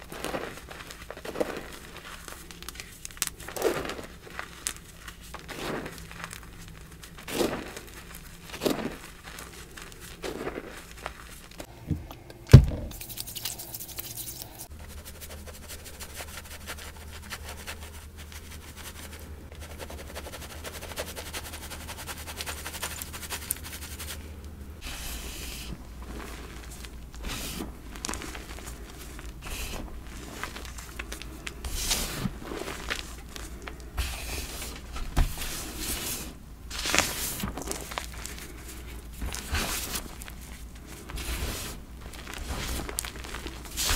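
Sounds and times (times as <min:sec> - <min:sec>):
chalk crunching and scraping: 0:00.0 - 0:11.7, 0:12.7 - 0:43.9.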